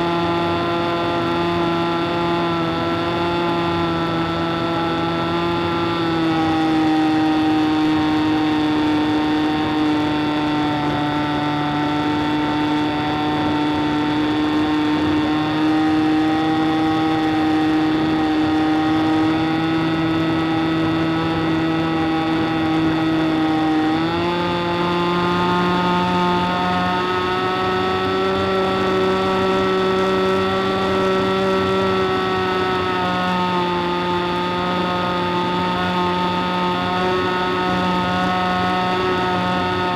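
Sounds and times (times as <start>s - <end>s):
model plane engine running: 0.0s - 39.9s.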